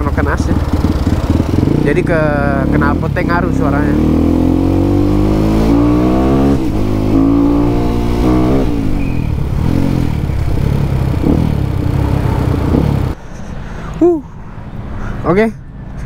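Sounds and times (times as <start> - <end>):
motorcycle engine accelerating: 0.0 - 13.2.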